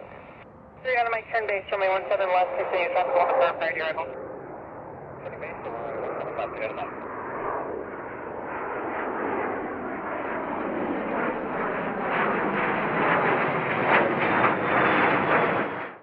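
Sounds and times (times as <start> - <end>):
aircraft engine rushing: 0.0 - 16.0.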